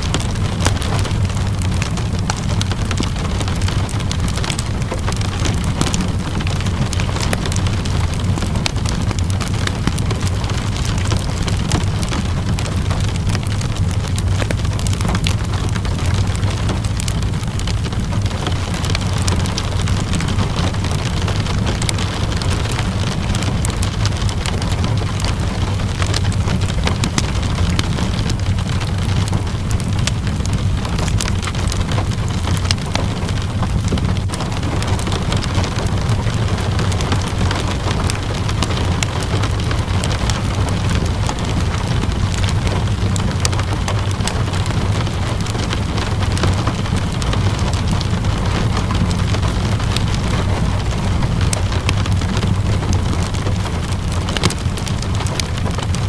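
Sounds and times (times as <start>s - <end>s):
fireplace crackling and popping: 0.0s - 56.0s
steady rainfall: 0.0s - 56.0s.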